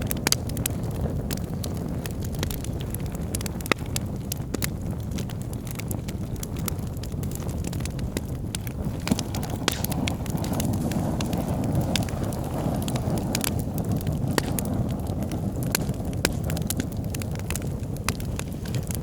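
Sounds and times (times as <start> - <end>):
fire rumbling: 0.0 - 19.0
logs crackling and popping: 0.0 - 19.0.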